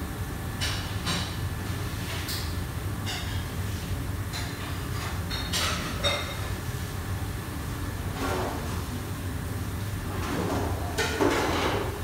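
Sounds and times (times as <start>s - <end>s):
kitchen range and extraction rumble: 0.0s - 12.0s.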